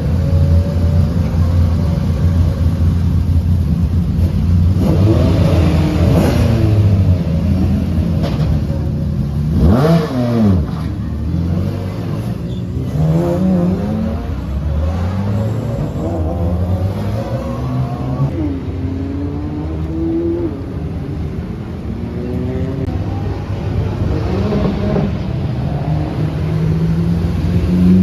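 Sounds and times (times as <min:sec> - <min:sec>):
racing cars passing: 0:00.0 - 0:28.0.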